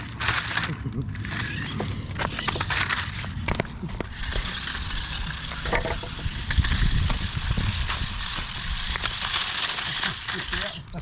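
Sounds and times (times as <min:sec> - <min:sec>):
toy remote-control cars racing: 0:00.0 - 0:11.0.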